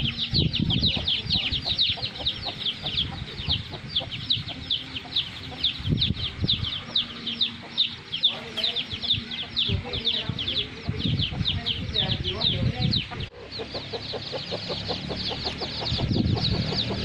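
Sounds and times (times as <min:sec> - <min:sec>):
chicks peeping: 0:00.0 - 0:17.0
hen clucking: 0:00.0 - 0:17.0.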